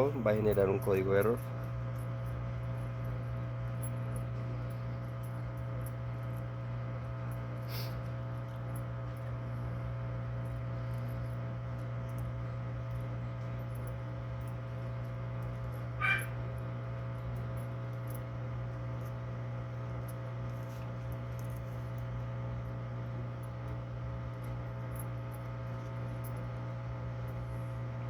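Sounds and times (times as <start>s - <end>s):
washing machine drain pump humming: 0.0s - 28.0s.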